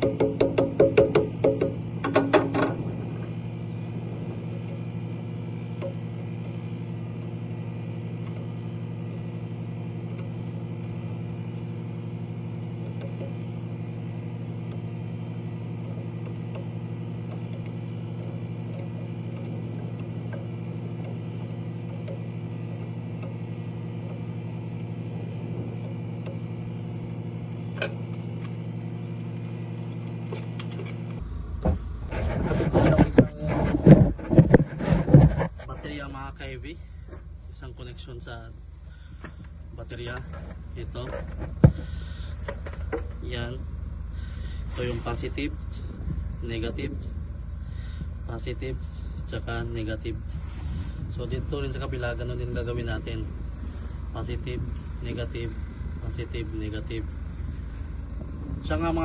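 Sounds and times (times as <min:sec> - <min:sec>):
low mechanical engine hum: 0:00.0 - 0:59.0.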